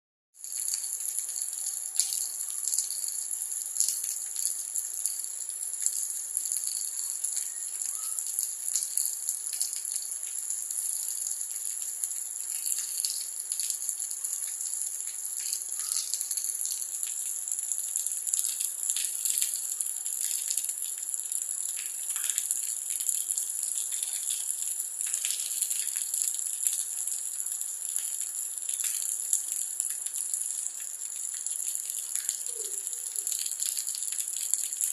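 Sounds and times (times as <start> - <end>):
rain hiss: 0.4 - 34.9
raindrops ticking and splashing: 0.4 - 34.9.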